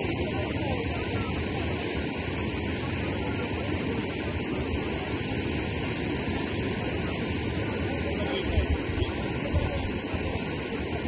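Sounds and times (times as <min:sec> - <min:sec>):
river rushing: 0:00.0 - 0:11.0
wind: 0:00.0 - 0:11.0.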